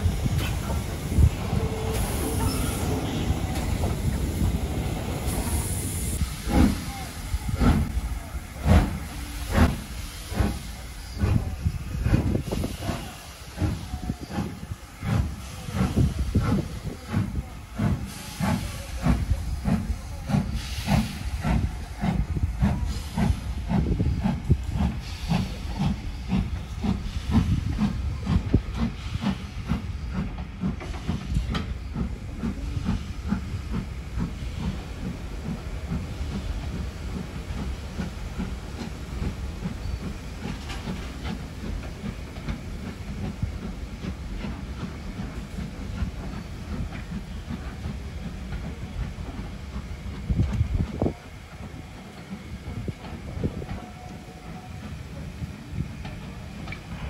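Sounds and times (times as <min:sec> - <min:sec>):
steam exhaust chuffs: 0:00.0 - 0:57.0
steam locomotive hissing steam: 0:00.0 - 0:57.0.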